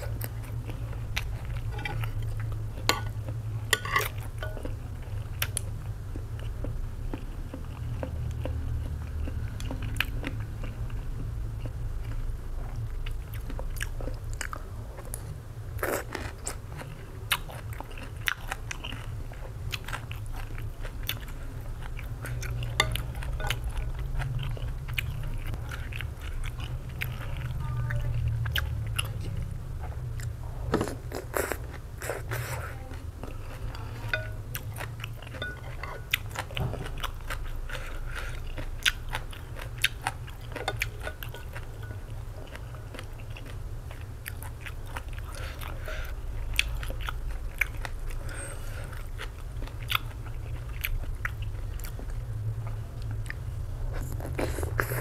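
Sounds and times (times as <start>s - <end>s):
person chewing and eating soup: 0.0s - 55.0s
steady low hum: 0.0s - 55.0s.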